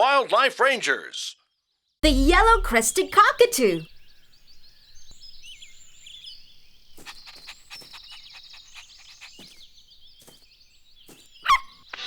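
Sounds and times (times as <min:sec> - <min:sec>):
birds chirping: 0:02.0 - 0:12.0.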